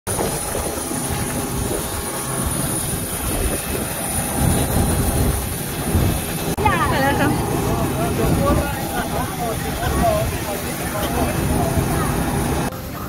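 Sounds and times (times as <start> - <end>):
aircraft engine low rumble: 0.1 - 13.0
high engine whine: 0.1 - 13.0.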